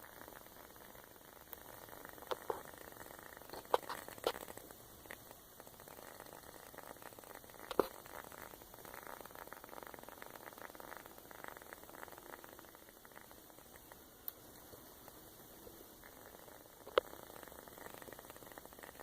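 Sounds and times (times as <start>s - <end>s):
candle crackling and popping: 0.0s - 19.0s.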